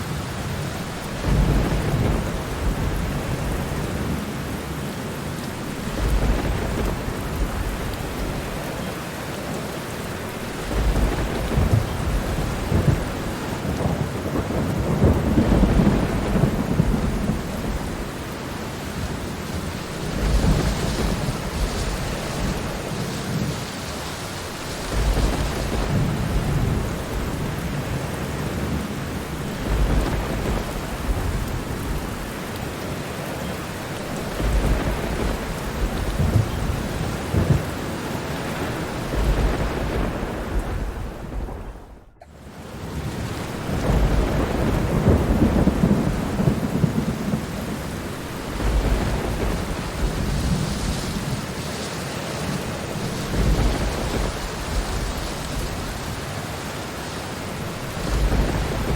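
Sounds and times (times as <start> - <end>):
heavy rain: 0.0 - 58.9
low rolls of thunder: 0.2 - 58.9.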